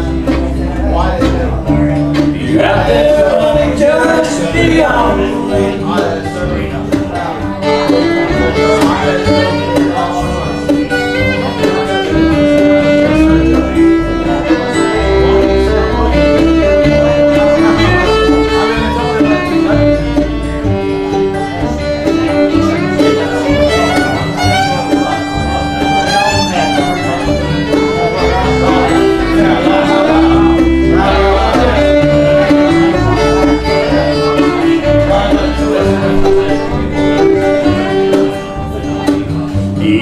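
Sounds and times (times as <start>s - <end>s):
fiddle melody: 0.0s - 40.0s
guitar: 0.0s - 40.0s
steady bass line: 0.0s - 40.0s.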